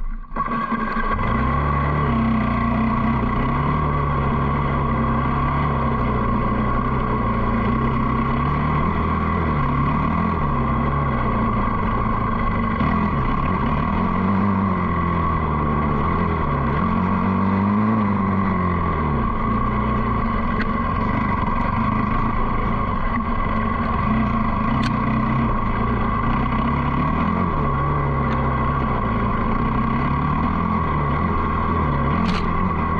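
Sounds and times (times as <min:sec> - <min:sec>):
dirt bike engine revving: 0:00.4 - 0:32.9.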